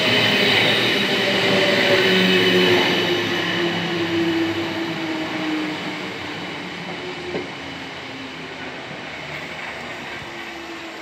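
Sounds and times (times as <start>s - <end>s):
electric train moving away: 0.0s - 11.0s.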